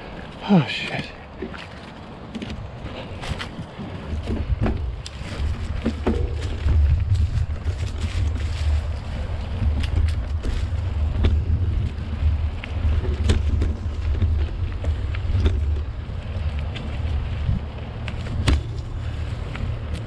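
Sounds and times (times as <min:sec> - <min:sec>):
wind buffeting microphone: 0:01.1 - 0:20.0
bike tyres and frame rattling: 0:01.2 - 0:20.0.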